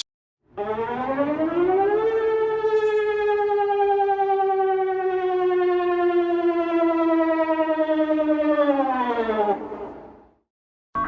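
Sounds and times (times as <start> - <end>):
civil defense siren wailing: 0.4 - 10.4.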